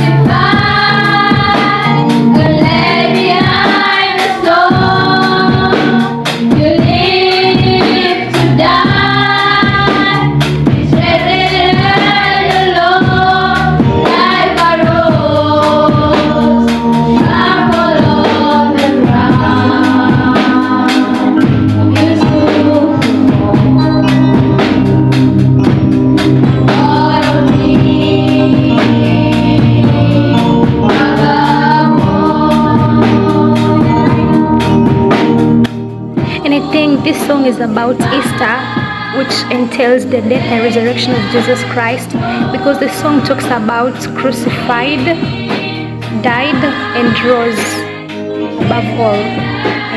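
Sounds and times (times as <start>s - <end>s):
choir singing gospel song: 0.0s - 49.9s
drum beat: 0.0s - 49.9s.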